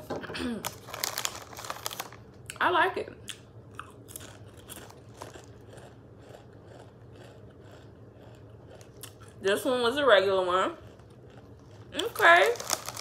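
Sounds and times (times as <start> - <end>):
person chewing crunchy chips: 0.6 - 2.6, 3.3 - 9.4, 10.2 - 13.0.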